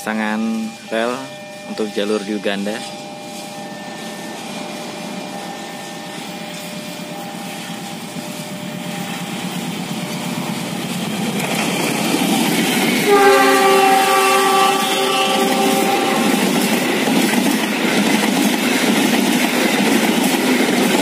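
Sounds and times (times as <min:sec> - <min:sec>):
diesel locomotive approaching: 0:00.0 - 0:21.0.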